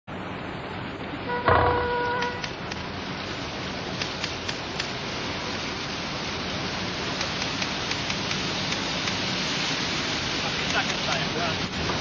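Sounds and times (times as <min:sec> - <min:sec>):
rain on wet street: 0:00.1 - 0:12.0.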